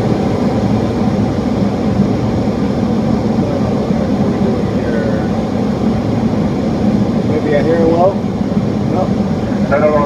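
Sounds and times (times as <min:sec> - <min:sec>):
airliner cockpit engine drone: 0:00.0 - 0:10.0.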